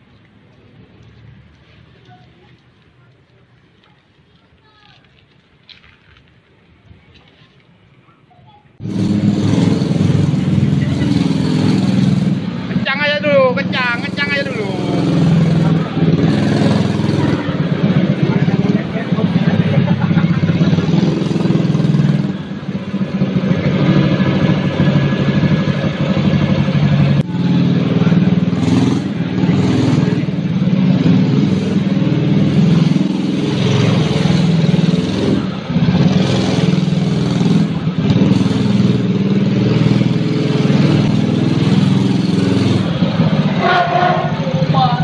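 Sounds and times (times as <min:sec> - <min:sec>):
minibike engine running: 0:08.8 - 0:45.0.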